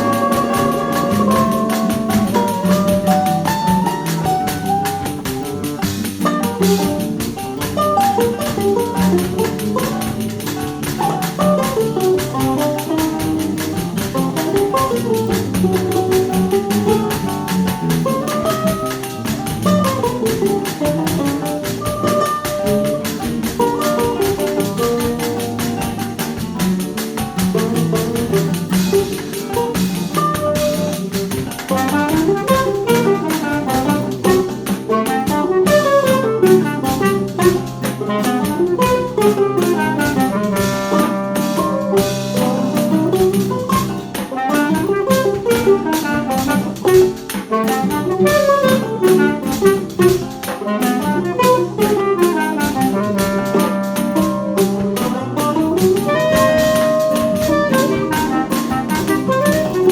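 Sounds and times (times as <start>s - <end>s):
lead melody: 0.0s - 59.9s
plucked strings: 0.0s - 59.9s
tambourine rhythm: 0.0s - 59.9s.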